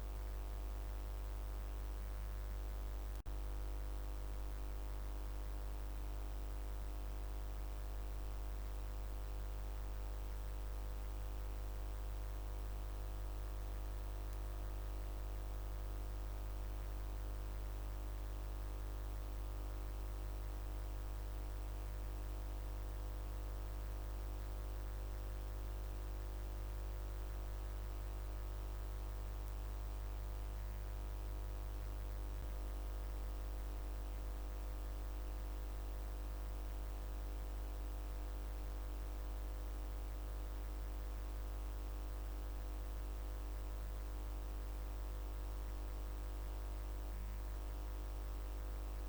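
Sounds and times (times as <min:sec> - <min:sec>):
low electrical hum: 0:00.0 - 0:49.0.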